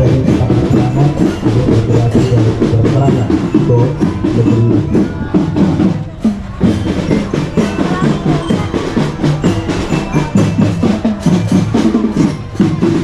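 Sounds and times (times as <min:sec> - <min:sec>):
drum band playing: 0:00.0 - 0:13.0
stepping melody: 0:00.0 - 0:13.0.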